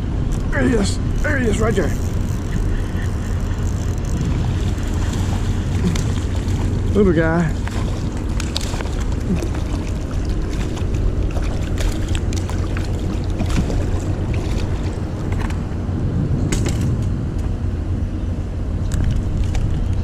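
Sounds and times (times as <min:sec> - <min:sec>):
water around canoe: 0:00.0 - 0:20.0
wind buffeting microphone: 0:00.0 - 0:20.0
clicks and knocks from boat: 0:01.2 - 0:15.8, 0:16.5 - 0:17.6, 0:18.8 - 0:20.0.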